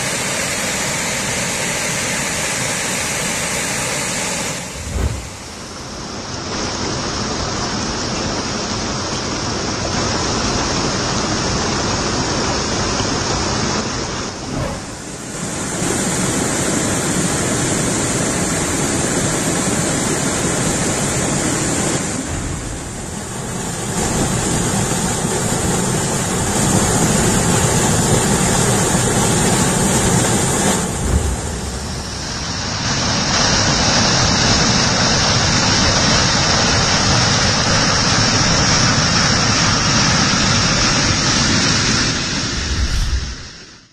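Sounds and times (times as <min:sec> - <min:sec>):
water rushing over rocks: 0:00.0 - 0:43.7.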